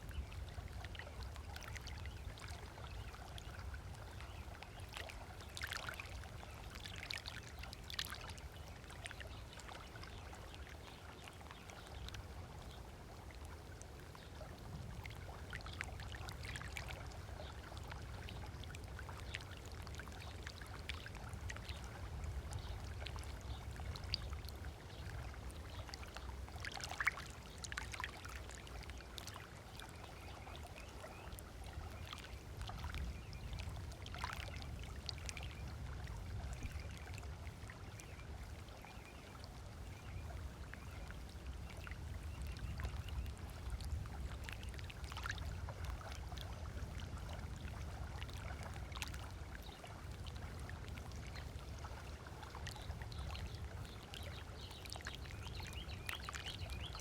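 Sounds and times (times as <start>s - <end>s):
small waves lapping on shore: 0.0s - 57.0s.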